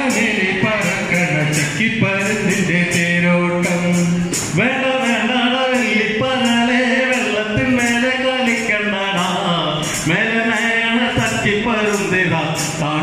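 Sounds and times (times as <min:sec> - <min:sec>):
group singing folk song: 0:00.0 - 0:13.0
tambourine jingling: 0:00.0 - 0:13.0.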